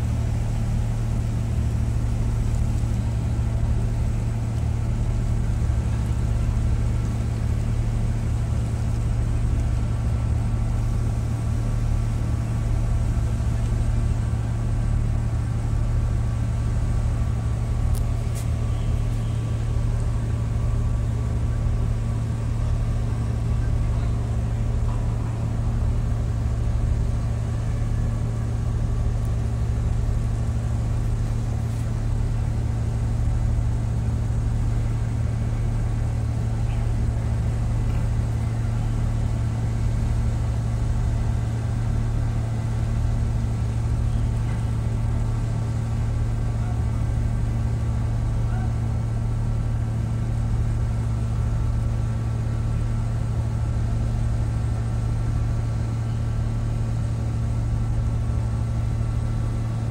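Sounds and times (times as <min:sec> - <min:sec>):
diesel engine drone: 0:00.0 - 0:59.9.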